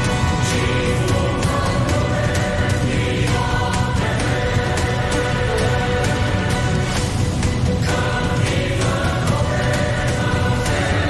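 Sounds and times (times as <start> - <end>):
dramatic music with choir tones: 0.0 - 11.0
driving beat: 0.0 - 11.0.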